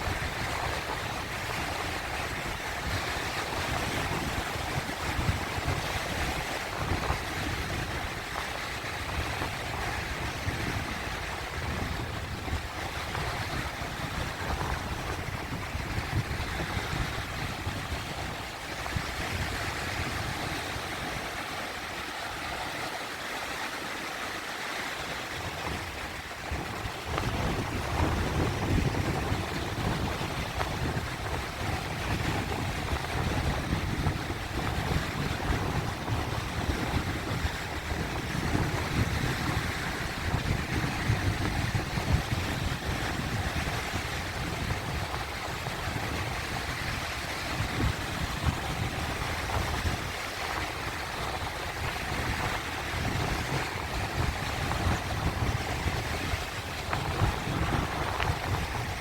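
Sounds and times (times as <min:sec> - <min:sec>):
low rumble of surf: 0:00.0 - 0:59.0
sea waves washing: 0:00.0 - 0:59.0.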